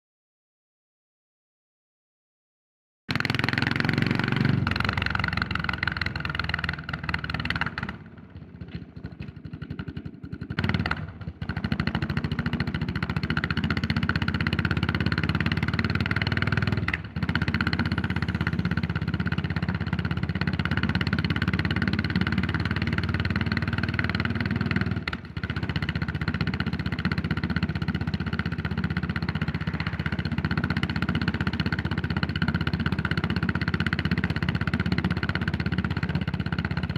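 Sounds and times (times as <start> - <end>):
motorcycle engine running: 3.1 - 36.9.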